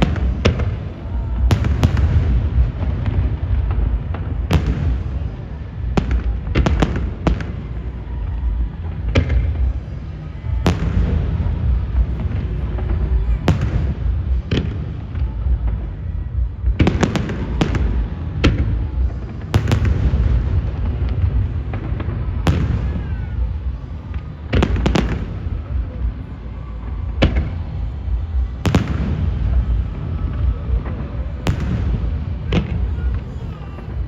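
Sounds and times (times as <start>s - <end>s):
fireworks bursting with sharp bangs: 0.0s - 34.0s
low rumble: 0.0s - 34.0s.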